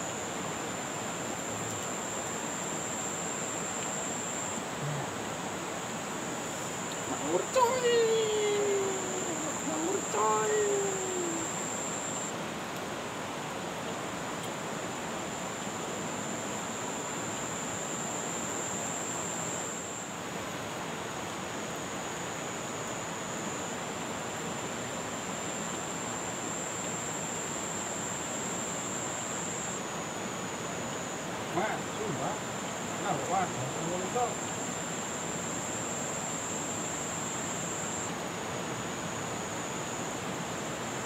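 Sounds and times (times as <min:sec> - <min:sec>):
thin high whine: 0:00.0 - 0:12.4, 0:15.3 - 0:20.5, 0:21.5 - 0:41.0.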